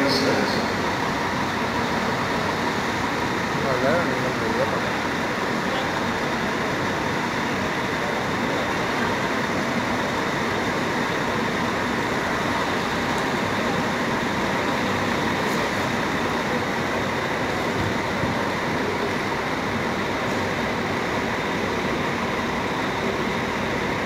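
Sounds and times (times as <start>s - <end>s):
coach engine and road noise: 0.0s - 24.0s.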